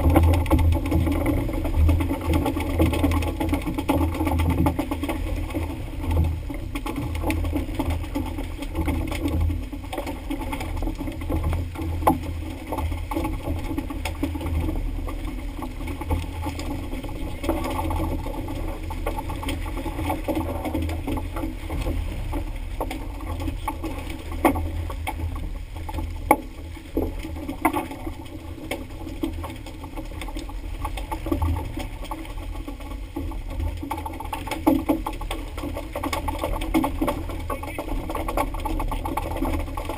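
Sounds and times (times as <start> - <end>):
boat engine running: 0.0 - 39.9
wind and water rumble: 0.0 - 39.9.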